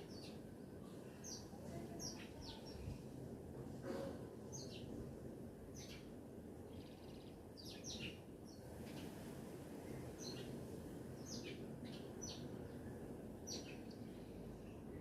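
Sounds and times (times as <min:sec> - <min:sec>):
small birds chirping: 0:00.0 - 0:03.1, 0:04.5 - 0:05.0, 0:05.7 - 0:15.0
low outdoor background noise: 0:00.0 - 0:15.0.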